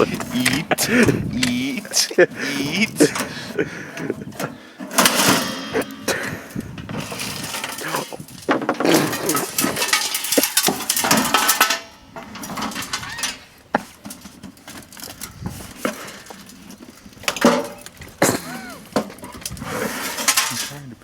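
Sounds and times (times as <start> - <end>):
sheet metal clanking: 0.0 - 21.0.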